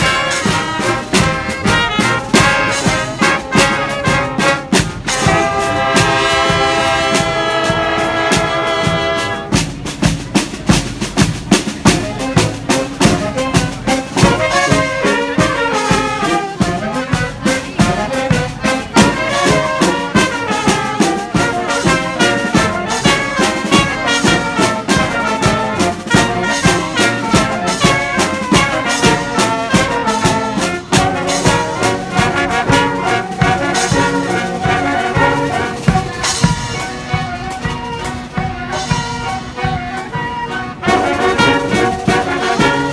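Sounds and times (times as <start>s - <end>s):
brass band playing upbeat tune: 0.0s - 42.9s
steady drumbeat: 0.0s - 42.9s.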